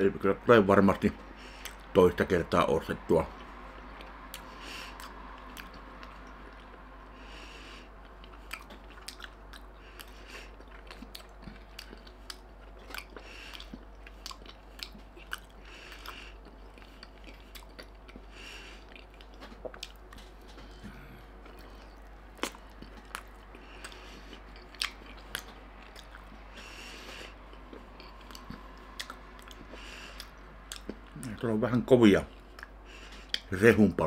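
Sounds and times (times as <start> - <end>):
man chewing: 1.2 - 1.9, 3.3 - 31.4, 32.3 - 33.5
man taking a bite: 3.4 - 31.2.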